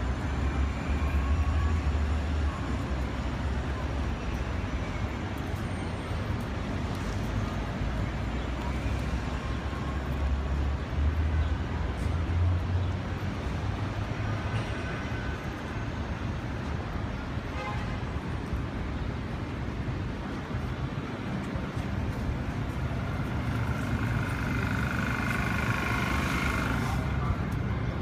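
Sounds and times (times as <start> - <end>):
passing vehicles: 0.0 - 28.0.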